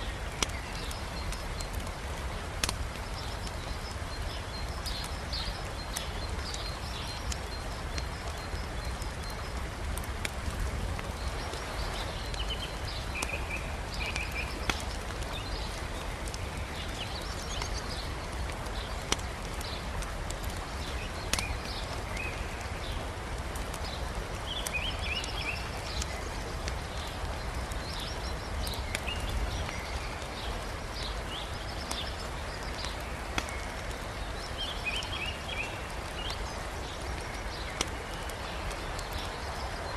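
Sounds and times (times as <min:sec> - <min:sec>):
campfire crackling: 0:00.0 - 0:39.9
river rushing: 0:00.0 - 0:39.9
small birds chirping: 0:00.0 - 0:39.9
burning logs popping: 0:00.1 - 0:39.9.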